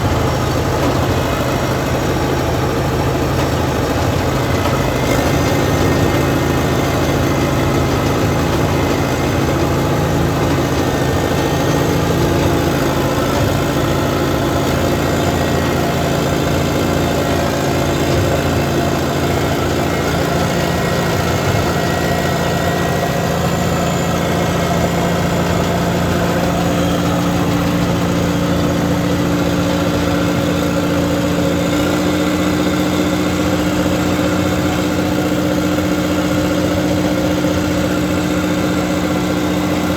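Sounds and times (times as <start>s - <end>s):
track loader engine running: 0.0s - 39.9s.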